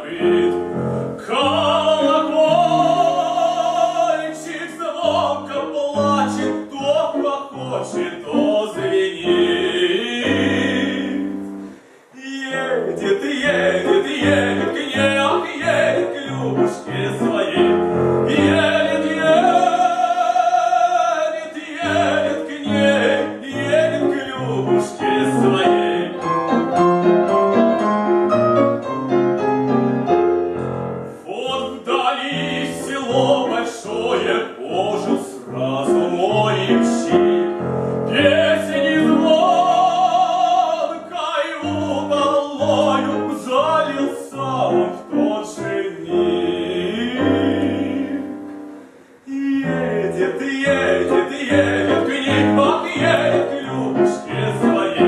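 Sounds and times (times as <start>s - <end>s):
operatic singing voice: 0.0s - 26.6s, 31.2s - 48.6s, 49.2s - 55.0s
piano accompaniment: 0.0s - 55.0s.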